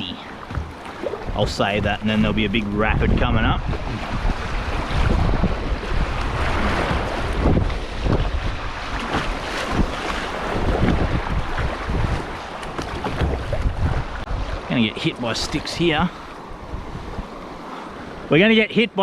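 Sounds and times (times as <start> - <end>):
river water rushing: 0.0 - 5.2, 6.0 - 19.0
wind rumble on microphone: 0.0 - 19.0.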